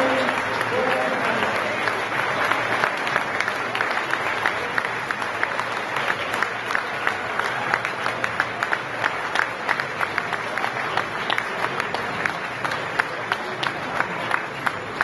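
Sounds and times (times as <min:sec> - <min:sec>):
large audience applauding: 0:00.0 - 0:15.0
sharp hand claps: 0:00.0 - 0:15.0.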